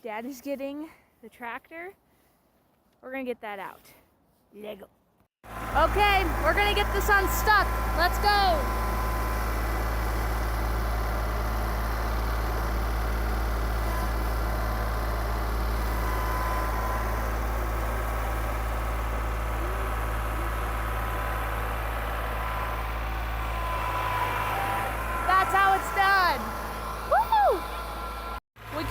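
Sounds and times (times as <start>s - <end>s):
tractor engine humming: 5.4s - 28.9s.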